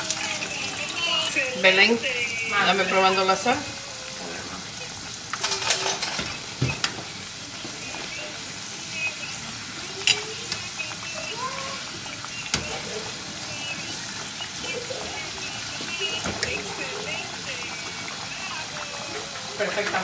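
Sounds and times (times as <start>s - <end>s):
plantain slices sizzling in hot oil: 0.0s - 20.0s.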